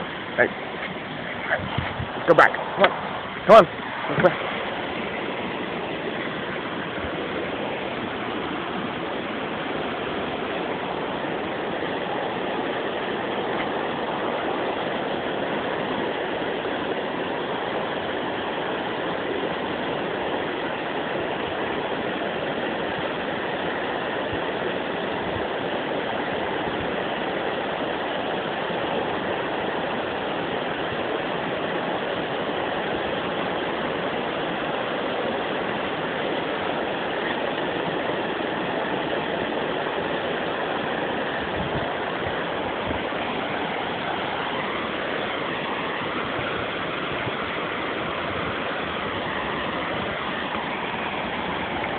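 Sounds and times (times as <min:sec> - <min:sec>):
rushing water under a bridge: 0:00.0 - 0:51.9.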